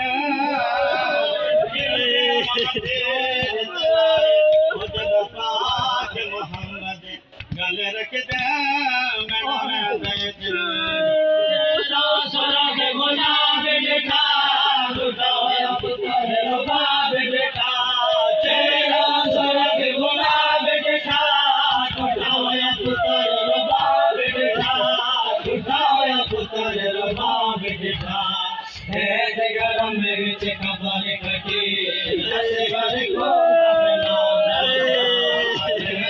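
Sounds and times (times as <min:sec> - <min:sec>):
men chanting in chorus: 0:00.0 - 0:36.0
person reciting into a microphone: 0:00.0 - 0:36.0
rhythmic chest-beating: 0:00.0 - 0:36.0.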